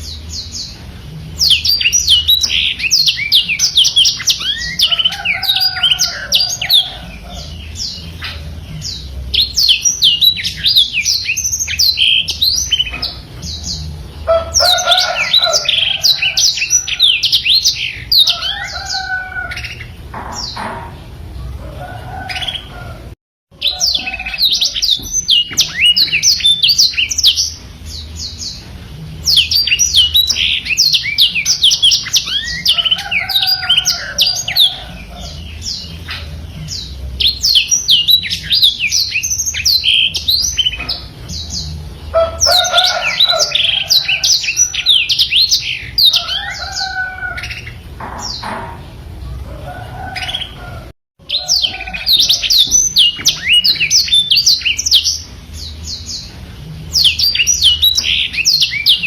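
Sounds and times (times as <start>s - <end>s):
canary singing chirps and trills: 0.0s - 59.0s.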